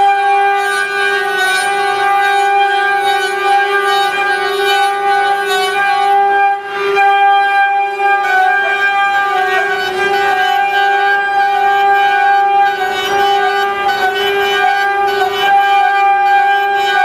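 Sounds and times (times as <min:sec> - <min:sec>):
machine spindles whining: 0:00.0 - 0:17.0.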